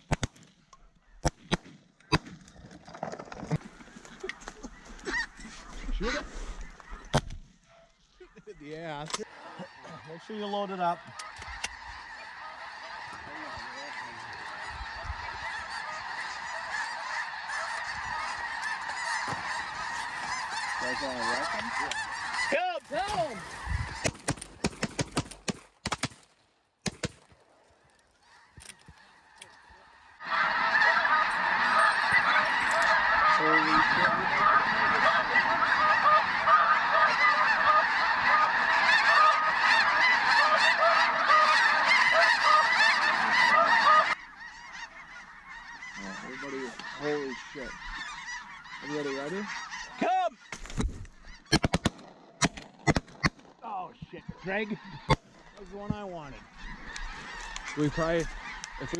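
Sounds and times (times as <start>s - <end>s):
flock of geese honking: 2.0s - 25.1s, 27.5s - 58.9s
single goose calls: 3.5s - 8.4s, 9.0s - 24.9s, 28.0s - 58.9s.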